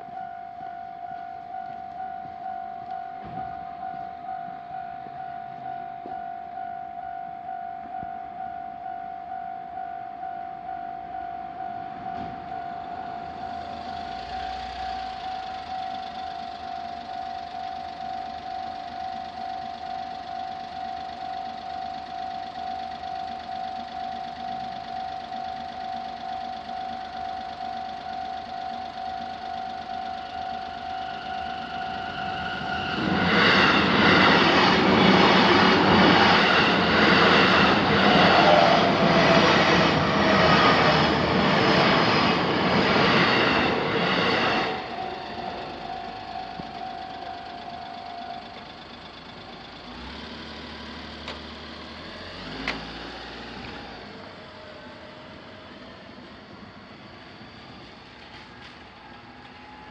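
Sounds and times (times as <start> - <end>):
railroad crossing alarm bell ringing: 0.0 - 50.1.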